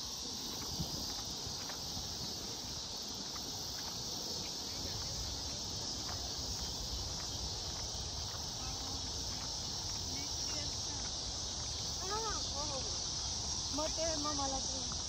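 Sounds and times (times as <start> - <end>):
crickets and insects chirring: 0.0 - 15.0.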